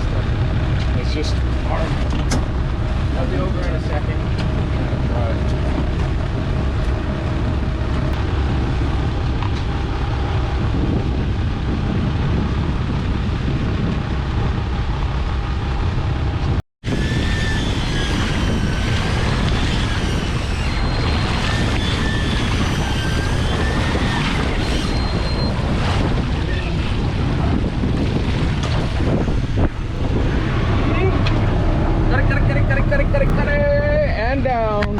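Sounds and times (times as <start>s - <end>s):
boat rumble: 0.0s - 34.9s
wind on microphone: 0.0s - 34.9s.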